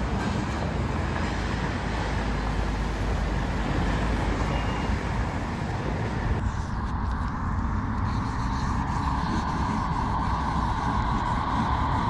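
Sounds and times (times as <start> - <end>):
passing cars hum and hiss: 0.0 - 12.0.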